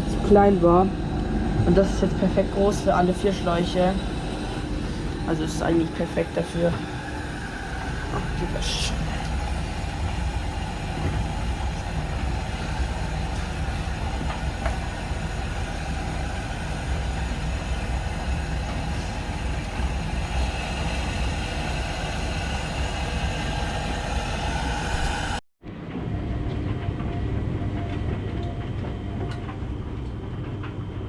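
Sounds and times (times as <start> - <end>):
washing machines rumbling: 0.0 - 31.0.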